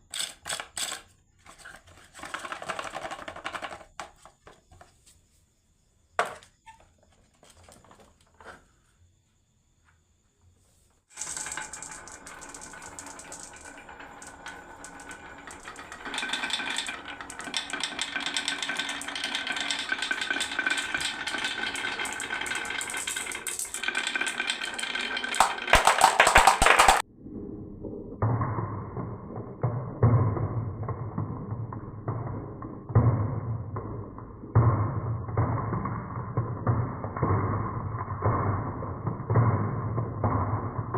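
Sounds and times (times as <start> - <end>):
marbles clattering down track: 0.0 - 4.7, 11.1 - 27.1, 27.8 - 40.9.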